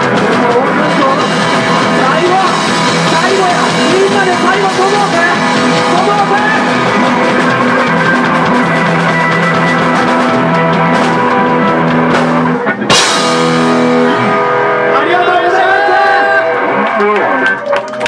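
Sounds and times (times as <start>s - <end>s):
drum kit: 0.0s - 16.6s
electric guitars holding chords: 0.0s - 17.7s.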